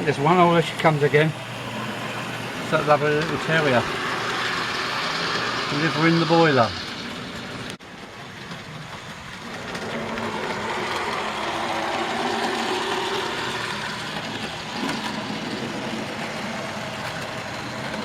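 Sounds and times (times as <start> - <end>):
model train wheels rumbling: 0.0 - 18.0.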